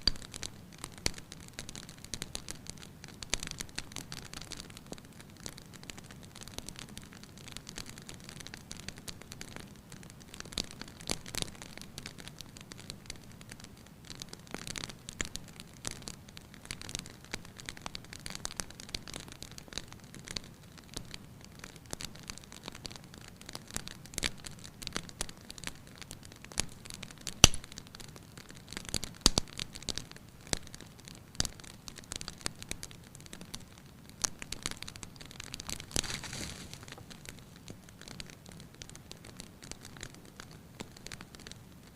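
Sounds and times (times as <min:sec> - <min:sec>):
soft steady hiss: 0:00.0 - 0:41.9
wood fire crackling: 0:00.0 - 0:41.9.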